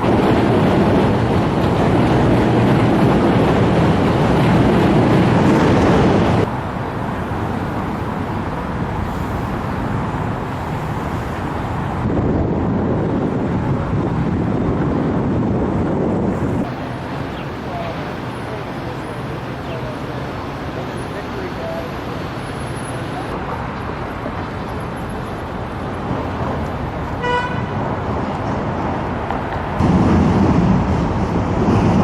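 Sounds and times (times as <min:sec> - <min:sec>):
street traffic noise: 0:00.0 - 0:32.0.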